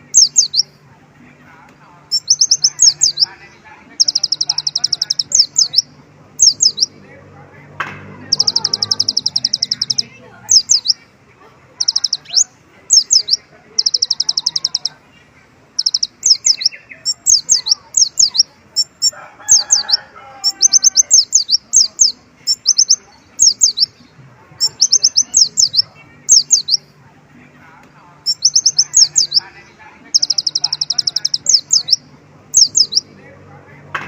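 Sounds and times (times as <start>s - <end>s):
bird singing fast trills: 0.0s - 0.8s, 2.1s - 7.0s, 8.2s - 11.1s, 11.7s - 15.0s, 15.7s - 26.9s, 28.2s - 33.2s.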